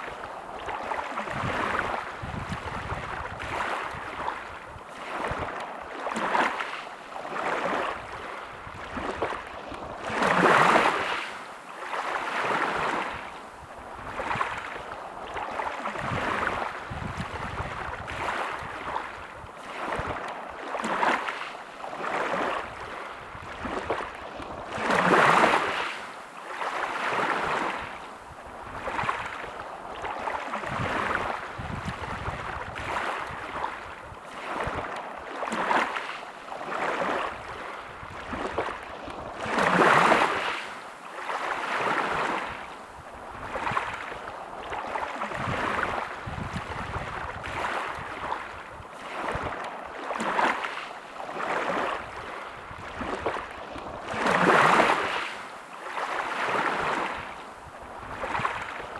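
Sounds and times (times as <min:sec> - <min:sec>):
sea waves washing onto beach: 0:00.0 - 0:58.9.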